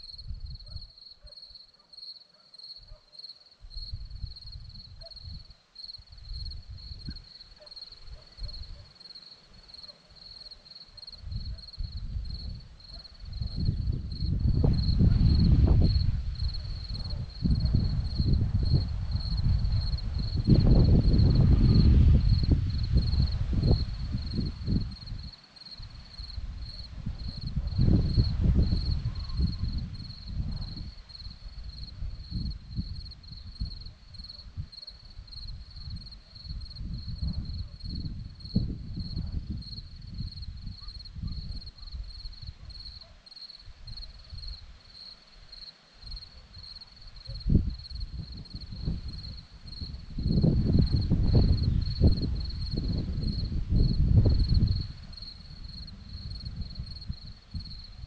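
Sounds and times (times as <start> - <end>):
wind rumbling on microphone: 0.0 - 0.9, 3.6 - 8.9, 11.0 - 45.0, 46.0 - 58.0
crickets chirping: 0.0 - 58.0.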